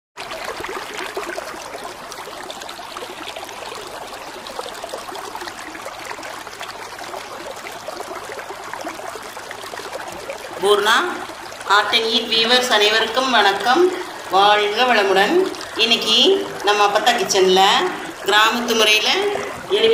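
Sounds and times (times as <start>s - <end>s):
water running and trickling: 0.2s - 19.9s.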